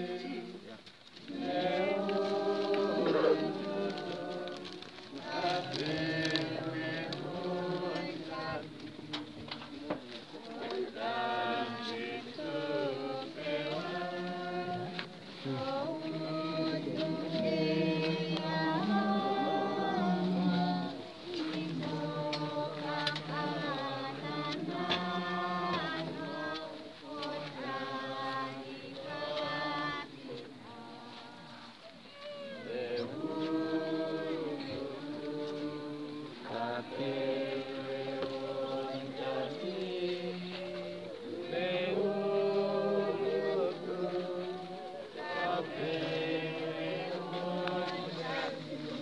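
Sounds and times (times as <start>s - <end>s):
group singing in chorus: 0.0s - 32.0s, 32.6s - 49.0s.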